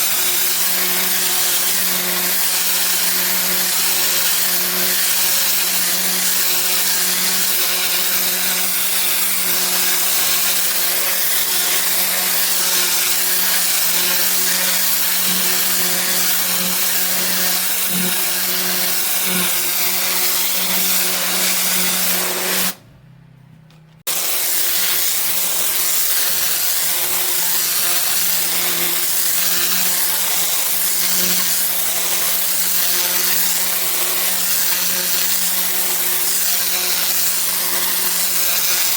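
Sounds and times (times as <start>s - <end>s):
pressure washer hum: 0.0s - 22.9s, 23.7s - 38.9s.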